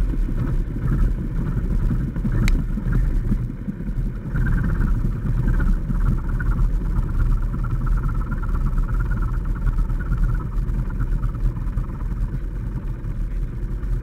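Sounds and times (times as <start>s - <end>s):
airplane engine idling: 0.0s - 14.0s.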